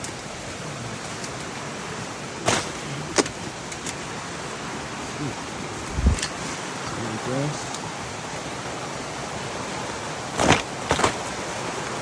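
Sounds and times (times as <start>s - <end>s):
rain falling: 0.0s - 12.0s
river water flowing: 0.0s - 12.0s.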